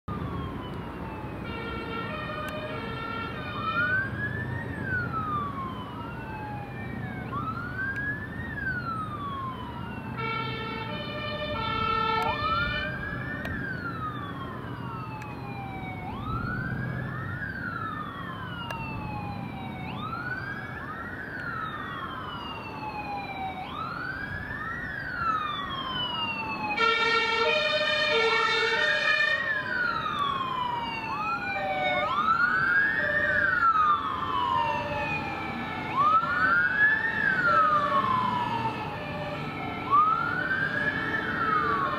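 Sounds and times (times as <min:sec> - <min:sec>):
engine and road rumble: 0:00.1 - 0:41.9
wailing emergency sirens: 0:00.1 - 0:41.9.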